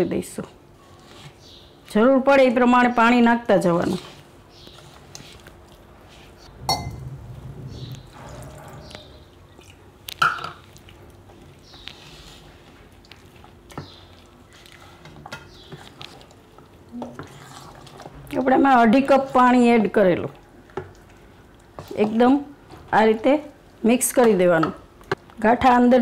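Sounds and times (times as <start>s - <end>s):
spoon stirring thick batter: 0.8s - 2.0s, 3.0s - 24.8s.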